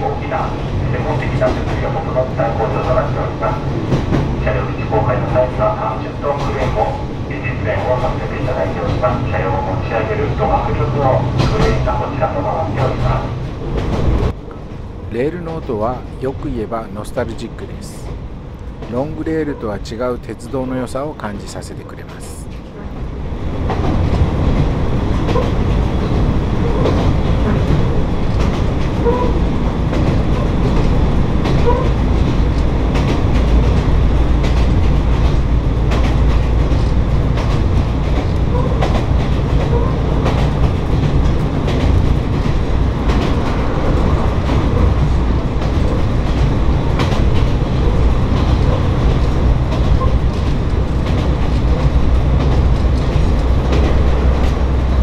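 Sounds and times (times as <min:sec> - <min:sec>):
wheels clacking over rail joints: 0:00.0 - 0:16.4, 0:21.8 - 0:55.0
diesel railcar engine rumble: 0:00.0 - 0:55.0.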